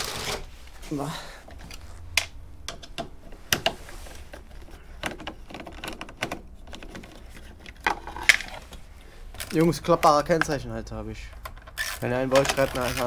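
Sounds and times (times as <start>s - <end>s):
scooter parts clicking and rattling: 1.4s - 13.0s.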